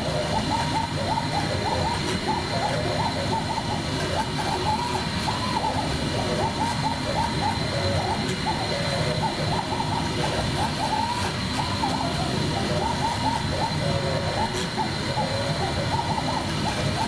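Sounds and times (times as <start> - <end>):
constant rush of noise: 0.0 - 17.0
router spindle whine: 0.0 - 17.0.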